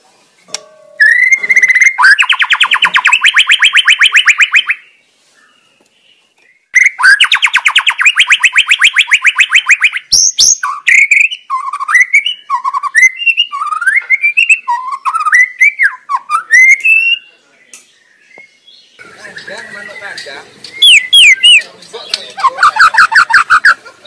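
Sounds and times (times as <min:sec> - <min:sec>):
bird singing trills and whistles: 0:01.0 - 0:23.8.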